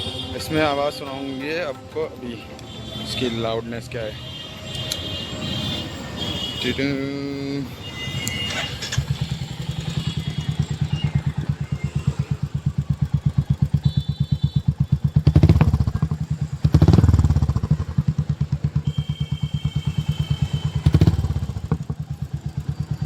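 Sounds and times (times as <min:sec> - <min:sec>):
motorcycle engine idling and revving: 0:00.0 - 0:00.9, 0:02.6 - 0:23.0.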